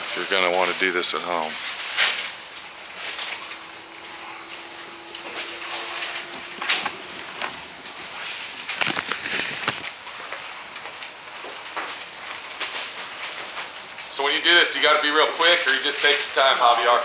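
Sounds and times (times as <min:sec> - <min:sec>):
vinyl and paper rustling: 0:00.0 - 0:17.0.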